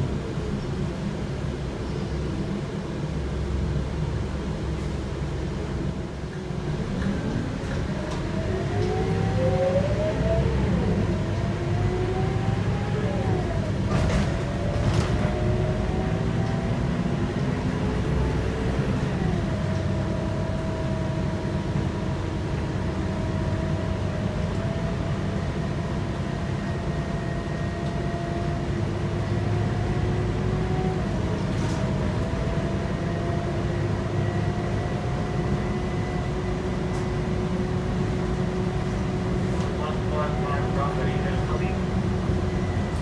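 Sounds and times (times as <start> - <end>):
bus engine rumble: 0.0 - 43.0.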